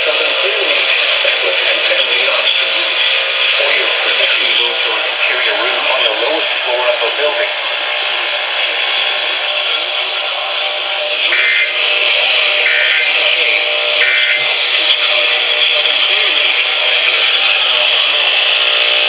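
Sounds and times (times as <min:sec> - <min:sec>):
faint voice or music: 0:00.0 - 0:19.0
radio static hiss: 0:00.0 - 0:19.0
shrill buzzing data bursts: 0:02.6 - 0:19.0.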